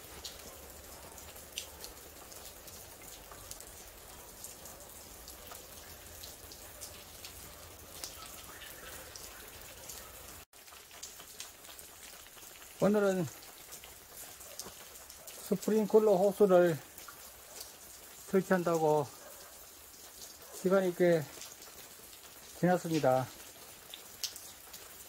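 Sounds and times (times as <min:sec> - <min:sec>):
sharp drip ticks: 0:00.0 - 0:25.0
sprinkler water falling like rain: 0:00.0 - 0:25.0.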